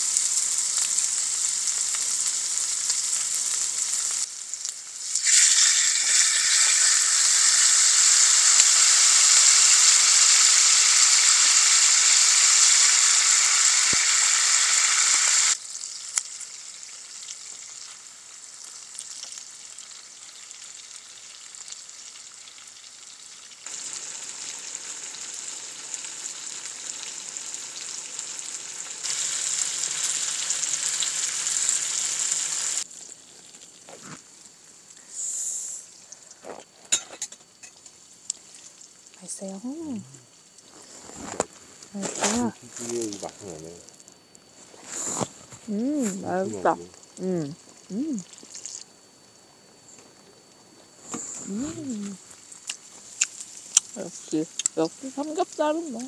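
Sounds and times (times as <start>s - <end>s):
pork sizzling on griddle pan: 0.0s - 36.2s, 36.9s - 45.2s, 51.0s - 56.0s.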